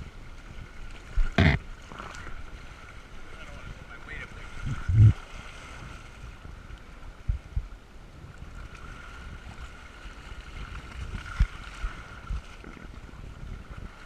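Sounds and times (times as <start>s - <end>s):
water rushing along hull: 0.0s - 14.0s
waves thumping the hull: 0.0s - 14.0s.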